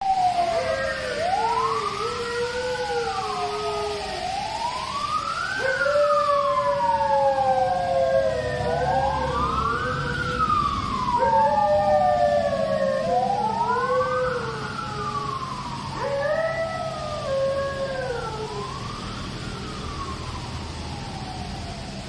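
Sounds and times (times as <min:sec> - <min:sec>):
dog howling: 0:00.0 - 0:20.2
siren wailing: 0:00.0 - 0:22.0.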